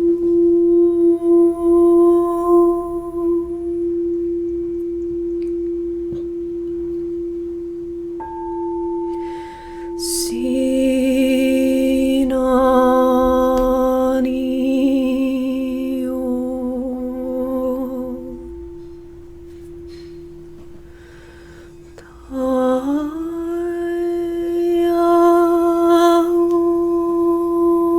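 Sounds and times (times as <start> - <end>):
person singing a wavering tone: 0.0 - 19.6, 21.8 - 27.9
singing bowl ringing: 0.0 - 27.9.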